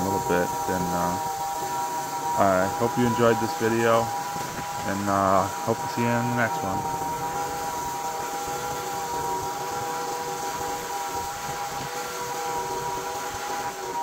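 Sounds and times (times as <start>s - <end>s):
band sawmill cutting wood: 0.0s - 14.0s.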